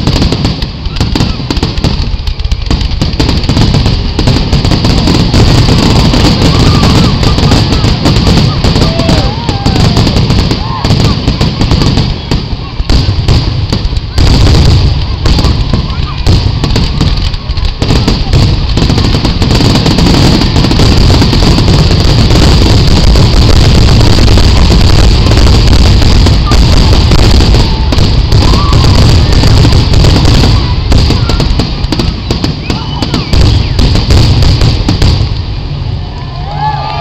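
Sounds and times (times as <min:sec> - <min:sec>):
fireworks bursting: 0:00.0 - 0:37.0.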